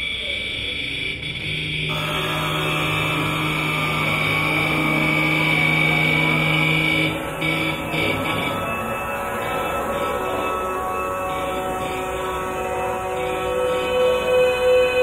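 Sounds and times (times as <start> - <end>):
high held tone: 0.0 - 15.0
low steady hum: 1.3 - 15.0.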